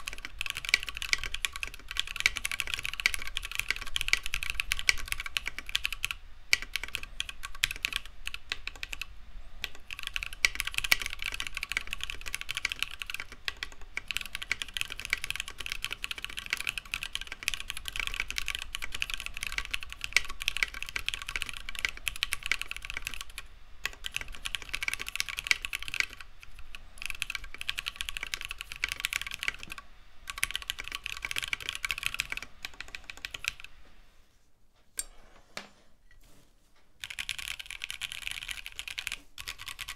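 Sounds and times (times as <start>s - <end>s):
fast typing on mechanical keyboard: 0.0s - 33.7s, 37.0s - 39.9s.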